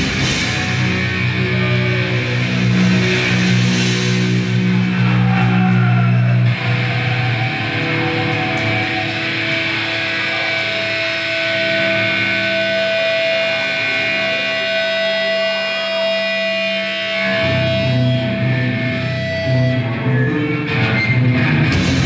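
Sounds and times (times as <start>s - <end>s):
low bass notes: 0.0s - 15.7s, 17.0s - 22.0s
electric guitar held tone: 0.0s - 22.0s.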